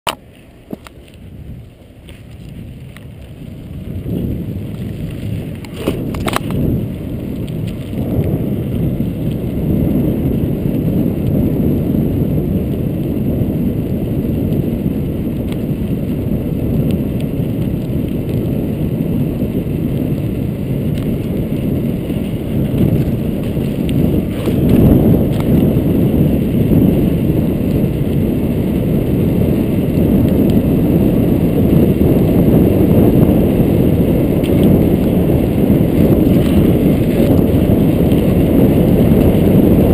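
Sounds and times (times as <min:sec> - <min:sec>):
bike tyres rolling on asphalt: 0:00.1 - 0:39.9
wind rumble on microphone: 0:00.1 - 0:39.9.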